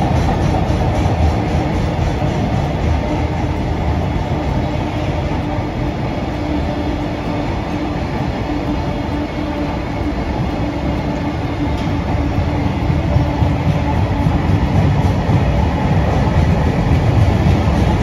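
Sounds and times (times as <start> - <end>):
steady hum: 0.0 - 18.0
train rumbling on rails: 0.0 - 18.0.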